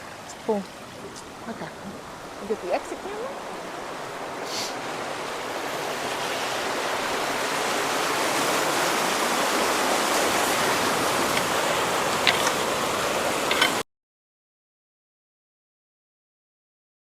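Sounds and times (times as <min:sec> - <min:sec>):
water rushing through culvert: 0:00.0 - 0:13.8.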